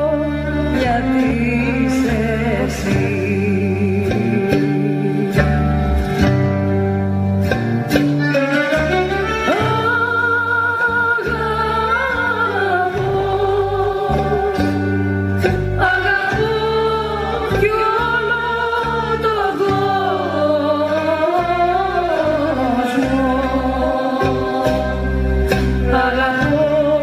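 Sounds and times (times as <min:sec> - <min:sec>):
held bass notes: 0:00.0 - 0:27.0
sung melody: 0:00.0 - 0:27.0.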